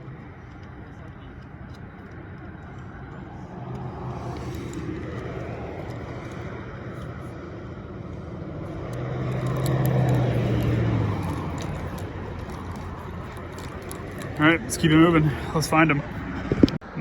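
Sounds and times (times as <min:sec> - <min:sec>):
motor vehicle passing: 0:00.0 - 0:16.8
background traffic noise: 0:00.0 - 0:17.0.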